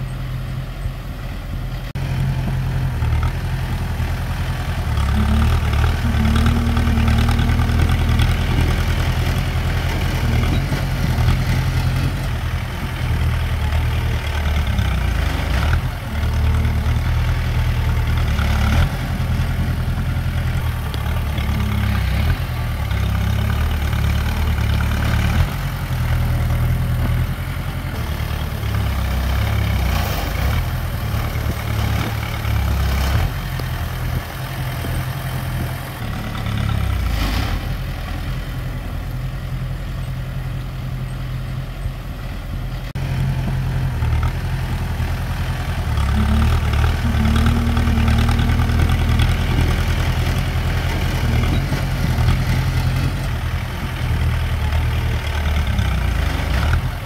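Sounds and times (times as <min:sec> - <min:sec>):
heavy diesel engine working: 0:00.0 - 0:57.0.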